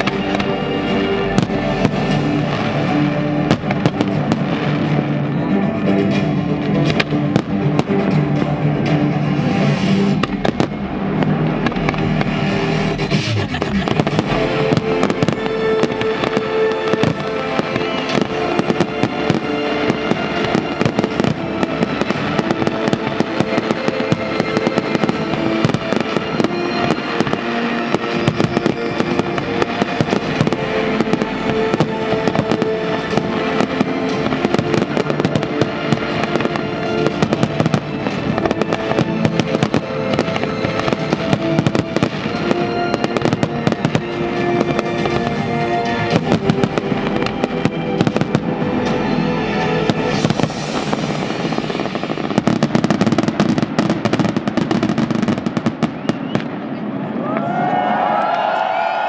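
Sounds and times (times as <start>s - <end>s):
music playing: 0.0s - 59.0s.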